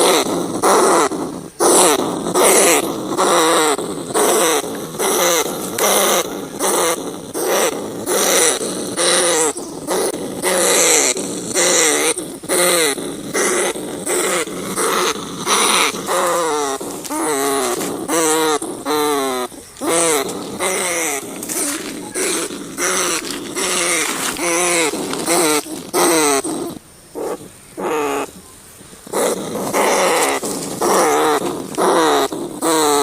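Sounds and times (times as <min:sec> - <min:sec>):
rats squealing: 0:00.0 - 0:28.4, 0:29.0 - 0:33.0.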